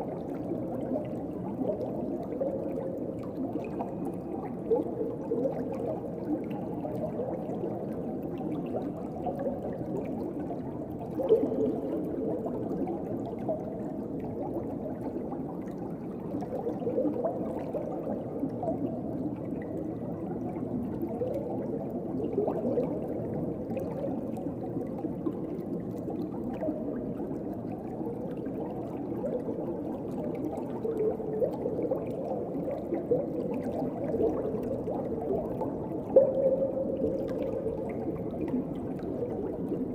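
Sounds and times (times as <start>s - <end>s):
underwater moving water: 0.0s - 39.9s.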